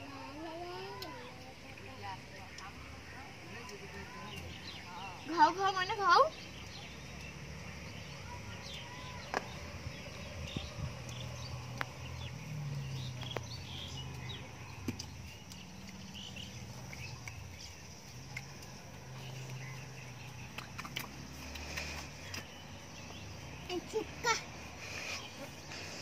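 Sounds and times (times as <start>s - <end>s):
bird chirps: 3.6s - 26.0s.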